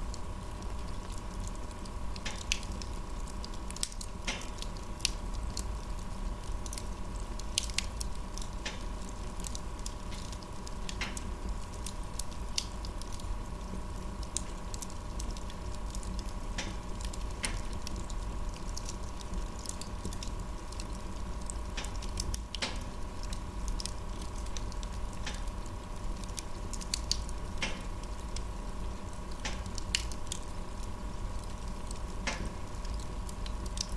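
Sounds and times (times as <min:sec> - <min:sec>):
wood fire crackling: 0:00.0 - 0:33.9
sharp pops and snaps: 0:00.6 - 0:13.3, 0:14.0 - 0:33.9.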